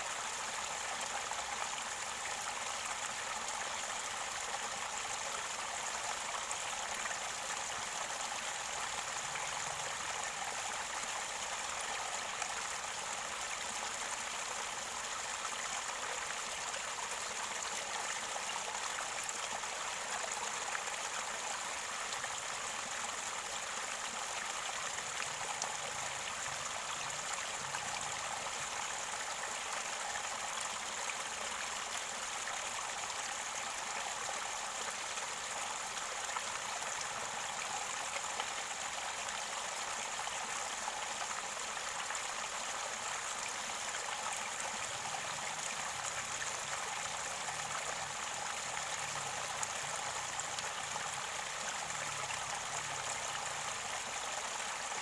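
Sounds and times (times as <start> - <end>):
river water gurgling: 0.0 - 55.0.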